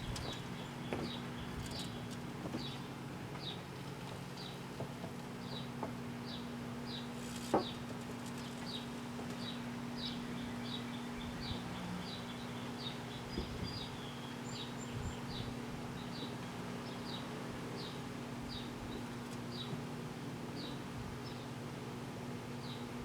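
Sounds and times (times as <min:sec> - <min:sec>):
microwave oven humming: 0:00.0 - 0:23.0.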